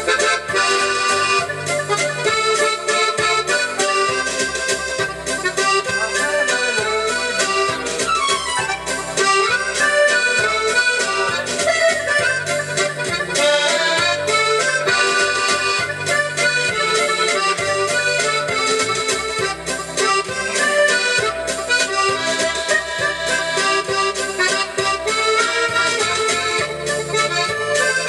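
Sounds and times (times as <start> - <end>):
keyboard playing a waltz: 0.0 - 28.0.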